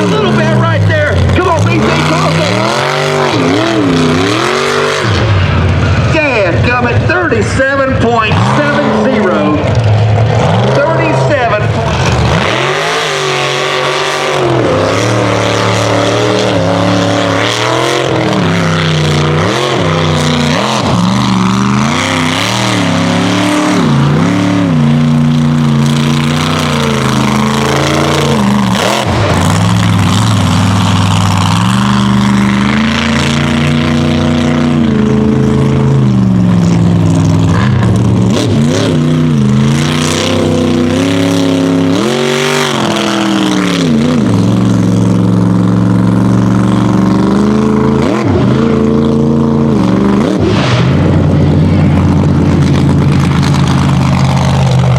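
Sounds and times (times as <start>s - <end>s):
truck engine revving hard: 0.0s - 54.9s.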